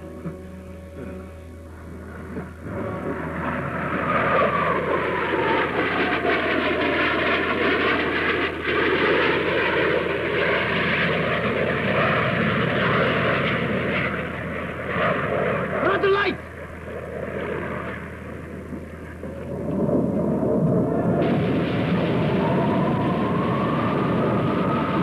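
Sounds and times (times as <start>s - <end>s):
airplane engines running: 0.0s - 25.0s.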